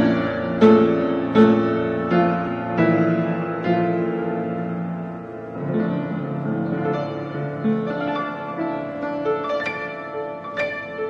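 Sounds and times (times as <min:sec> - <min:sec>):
upright piano chords and notes: 0:00.0 - 0:11.0.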